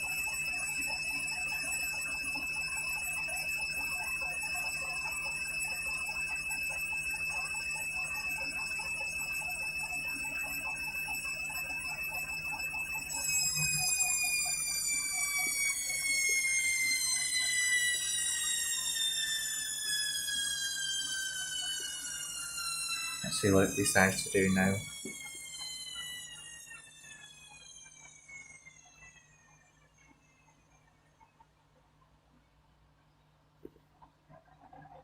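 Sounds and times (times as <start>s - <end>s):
washing machine drum motor whining: 0.0s - 31.4s.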